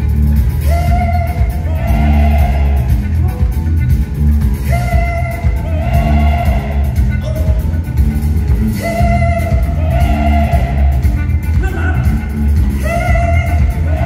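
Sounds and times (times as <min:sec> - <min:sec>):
live band playing: 0:00.0 - 0:14.0.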